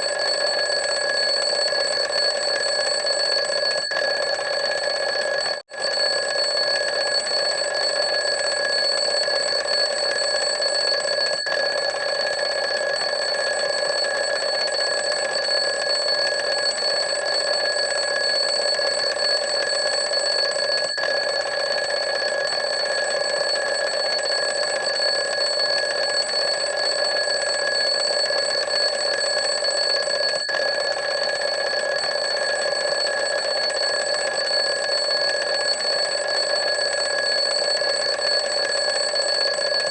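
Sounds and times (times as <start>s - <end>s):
alarm clock ringing: 0.0s - 39.9s.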